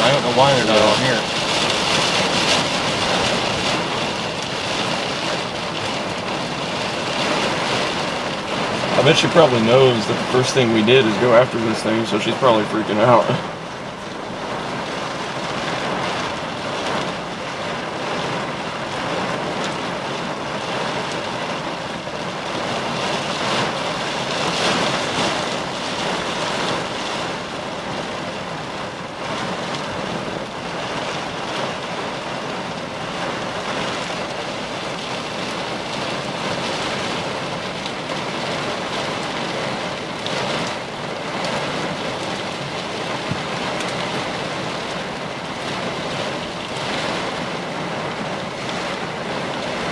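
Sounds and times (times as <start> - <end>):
rain rushing: 0.0 - 49.9
tyres on wet road: 0.0 - 49.9.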